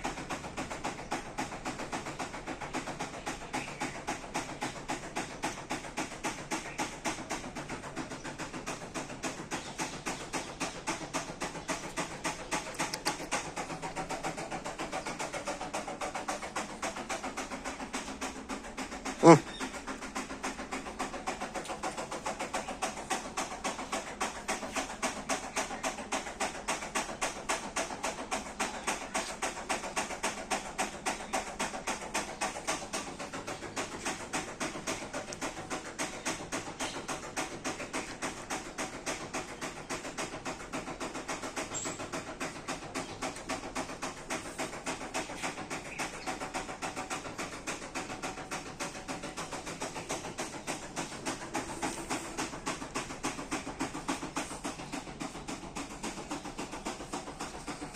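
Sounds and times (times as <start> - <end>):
dog panting: 0.0 - 57.9.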